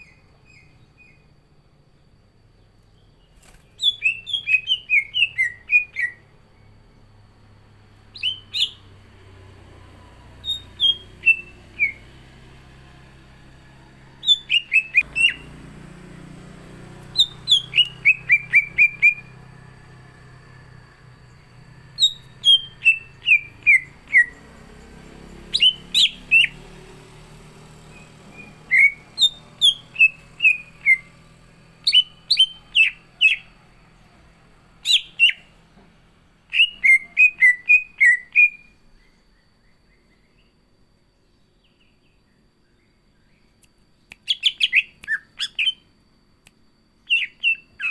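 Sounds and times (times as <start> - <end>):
bird singing sharp chirps: 2.9 - 35.8, 36.4 - 40.6, 41.4 - 45.9, 47.0 - 47.9.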